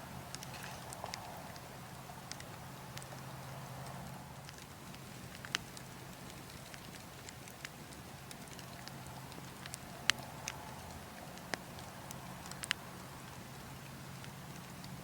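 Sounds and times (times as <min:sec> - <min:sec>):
low rumble of wind: 0:00.0 - 0:15.0
wood logs crackling and popping: 0:00.0 - 0:15.0.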